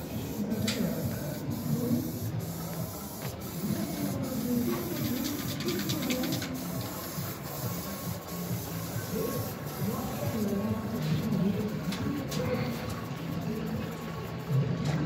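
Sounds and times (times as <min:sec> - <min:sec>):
spray paint cans hissing: 0:00.0 - 0:15.0.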